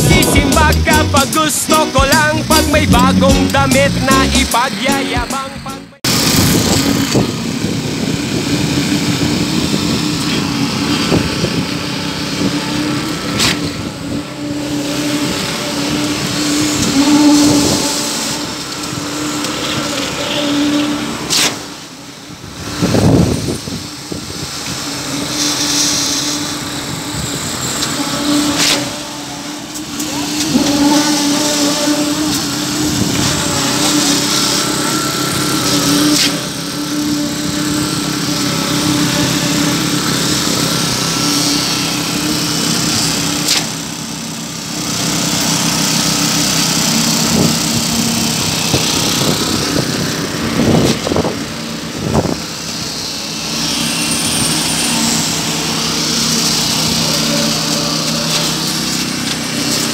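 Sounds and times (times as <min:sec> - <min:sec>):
concrete pump engine running: 0:00.0 - 0:59.9.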